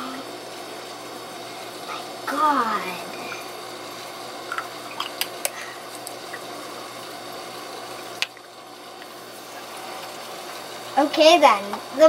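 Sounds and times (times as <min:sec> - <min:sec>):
aquarium water bubbling: 0:00.0 - 0:11.9.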